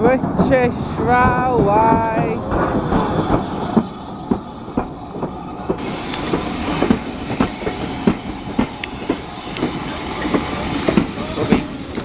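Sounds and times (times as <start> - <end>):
steady train rumble: 0.0 - 12.0
train wheels clicking over rail joints: 0.0 - 12.0.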